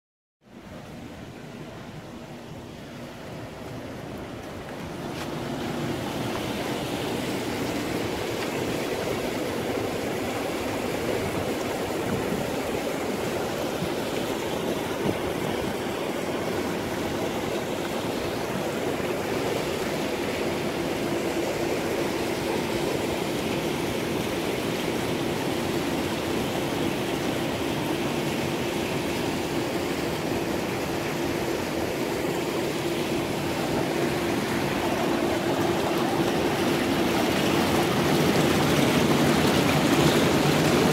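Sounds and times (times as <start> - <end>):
hot tub jets churning: 0.4 - 40.9
motor hum: 0.8 - 40.9
waterfall splashing into pool: 4.4 - 40.9.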